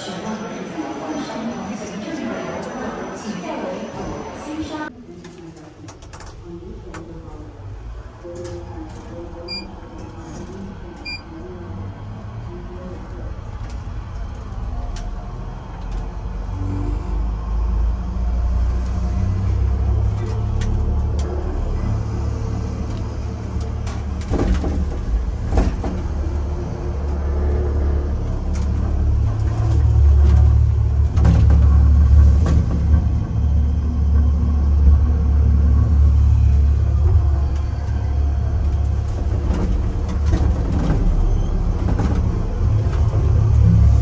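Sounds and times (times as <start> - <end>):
vehicle rumbling: 4.9 - 44.0.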